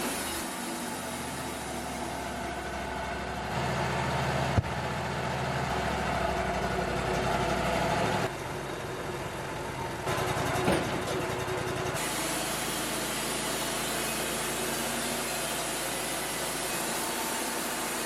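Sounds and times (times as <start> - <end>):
sawmill running: 0.0 - 18.0.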